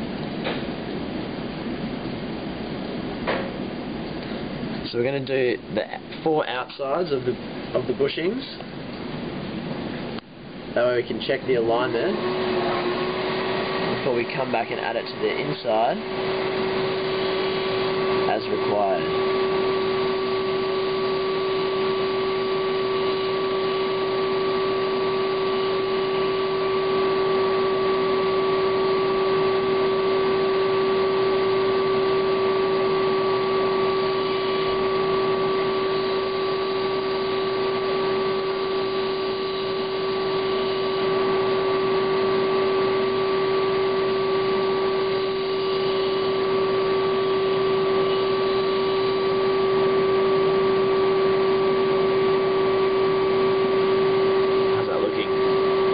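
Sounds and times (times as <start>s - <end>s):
steady two-pitch hum: 0.0s - 55.9s.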